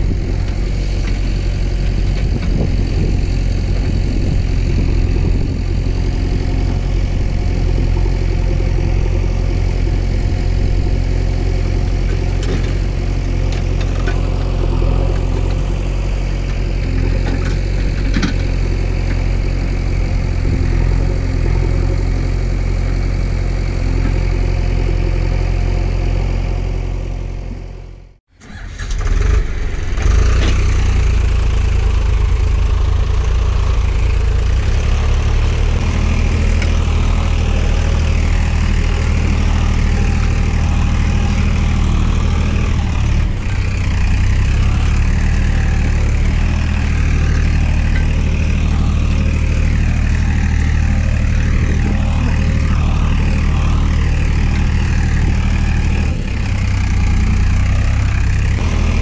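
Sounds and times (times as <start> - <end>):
heavy vehicle engine humming: 0.0 - 59.0.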